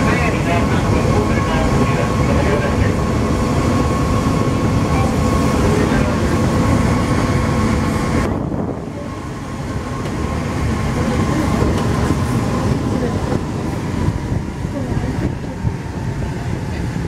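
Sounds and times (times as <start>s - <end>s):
metro train running rumble: 0.0s - 17.0s.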